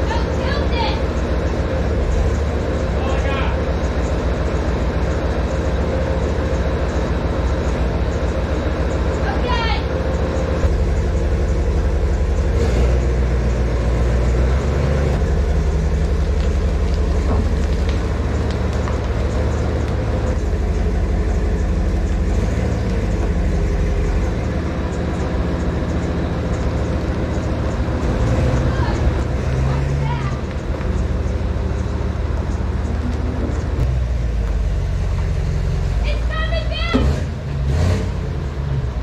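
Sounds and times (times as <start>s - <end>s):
diesel engine under load: 0.0s - 39.0s.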